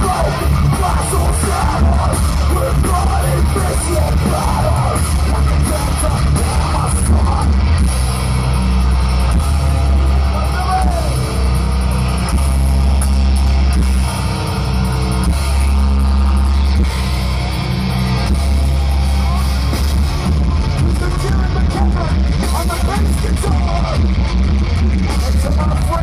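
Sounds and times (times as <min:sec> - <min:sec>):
live heavy metal band playing: 0:00.0 - 0:26.0.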